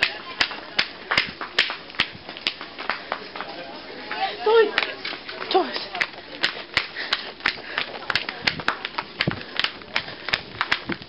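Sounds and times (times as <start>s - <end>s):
faint room hubbub: 0.0s - 11.0s.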